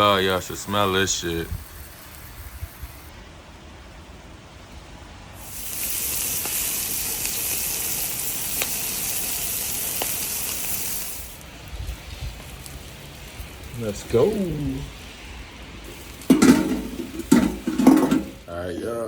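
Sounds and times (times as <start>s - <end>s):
meat sizzling on a grill: 0.0s - 3.1s, 5.4s - 18.9s.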